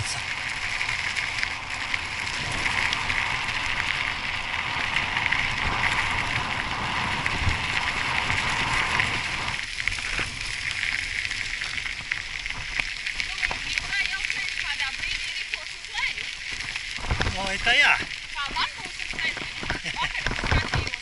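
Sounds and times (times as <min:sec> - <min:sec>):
bike tyres crunching on gravel: 0:00.0 - 0:21.0
wind rumbling on microphone: 0:00.0 - 0:21.0.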